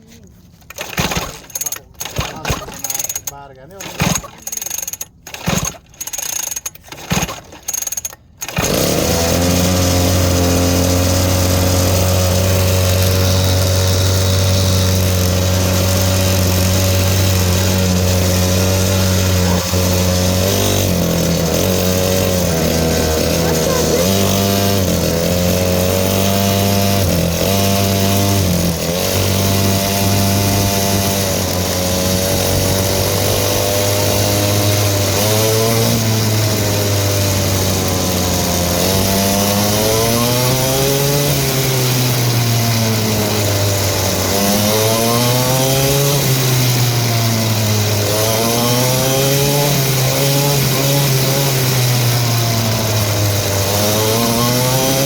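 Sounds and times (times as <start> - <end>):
dirt bike engine revving: 0.7 - 55.0.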